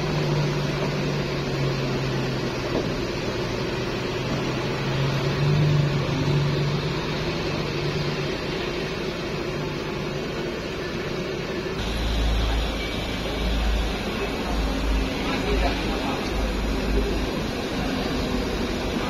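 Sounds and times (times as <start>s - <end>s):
bus diesel engines idling: 0.0s - 19.0s
bus driving off: 0.0s - 19.0s.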